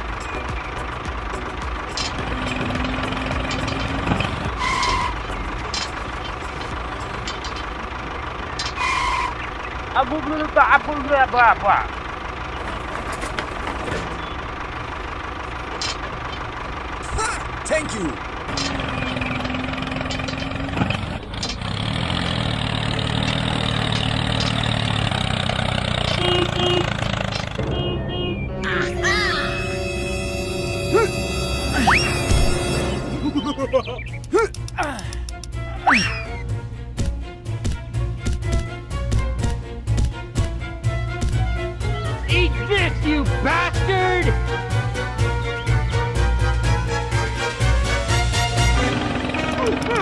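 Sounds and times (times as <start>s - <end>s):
vehicle engine running: 0.0s - 50.0s.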